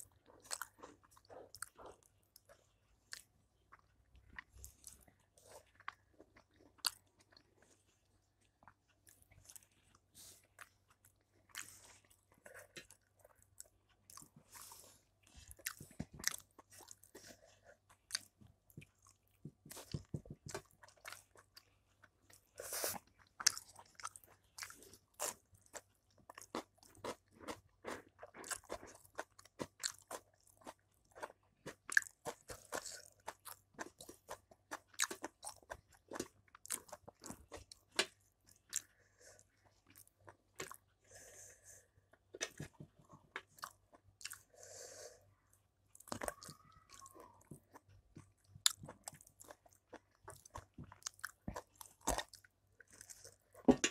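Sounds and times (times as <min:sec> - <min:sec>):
chewing and crunching: 0:00.0 - 0:53.9.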